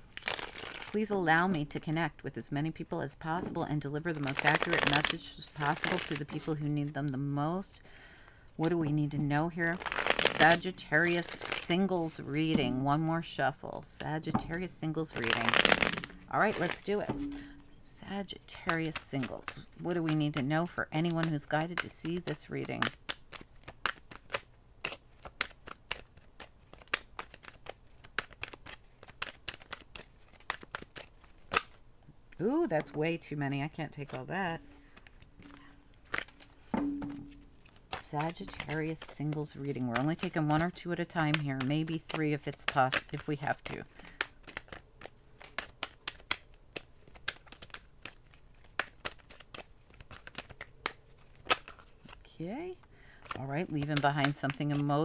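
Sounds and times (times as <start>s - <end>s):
cards being shuffled: 0.0s - 2.0s, 2.7s - 7.7s, 8.5s - 31.8s, 32.4s - 52.3s, 53.2s - 55.0s.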